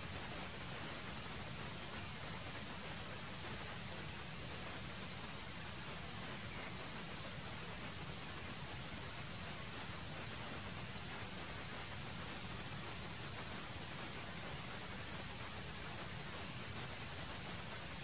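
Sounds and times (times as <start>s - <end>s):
insect chorus buzzing: 0.0s - 18.0s
outdoor ambience hiss: 0.0s - 18.0s.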